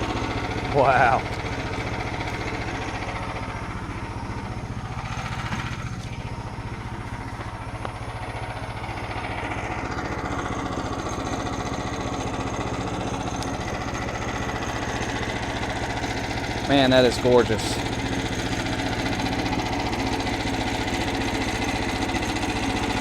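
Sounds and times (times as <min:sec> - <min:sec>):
small gasoline engine running: 0:00.0 - 0:23.0.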